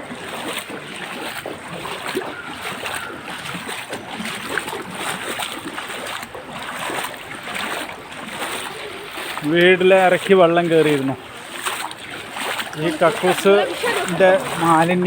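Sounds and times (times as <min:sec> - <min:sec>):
feet wading through water: 0:00.0 - 0:15.0.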